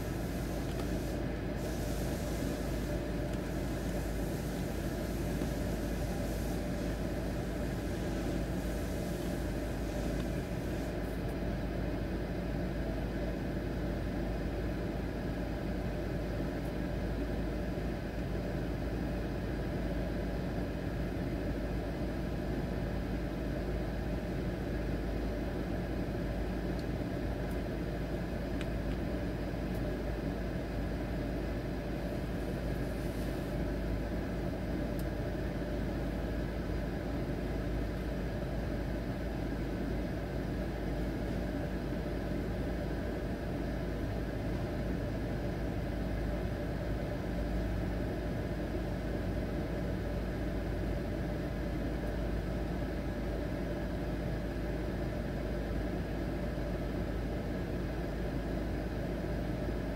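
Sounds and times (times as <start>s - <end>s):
car wash machinery humming: 0.0s - 59.9s.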